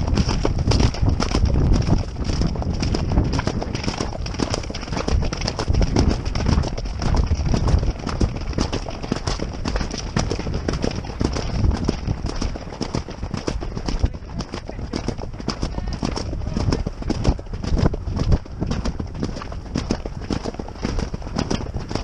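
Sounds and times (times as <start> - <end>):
horse hoofbeats on grass: 0.0 - 22.0.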